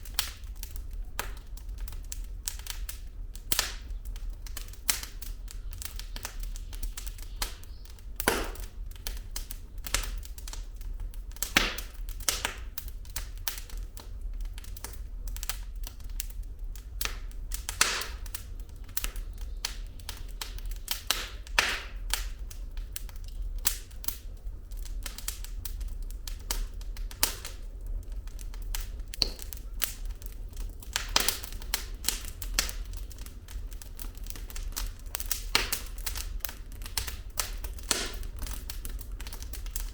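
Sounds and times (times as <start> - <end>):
fire low rumble: 0.0 - 39.9
firewood crackling and popping: 0.0 - 39.9.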